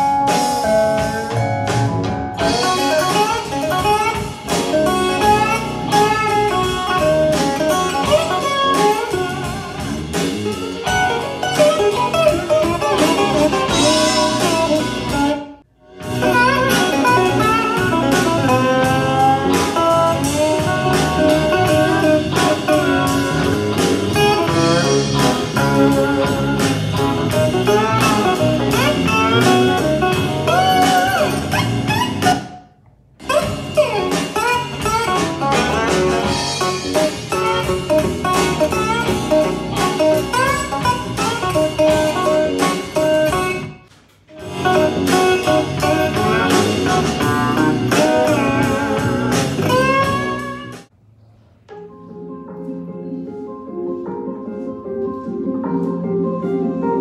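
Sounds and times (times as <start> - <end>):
guitar-led music with drums: 0.0 - 32.6, 33.2 - 50.9.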